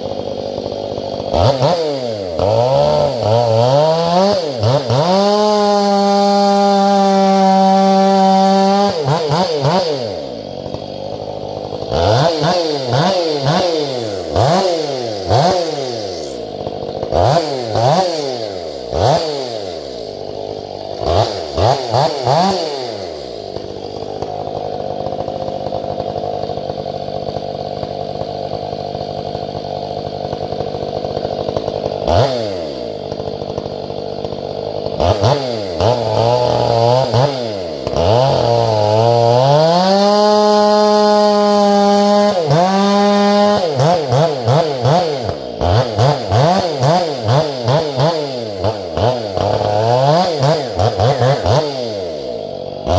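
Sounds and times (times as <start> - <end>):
chainsaw revving and idling: 0.0 - 52.9.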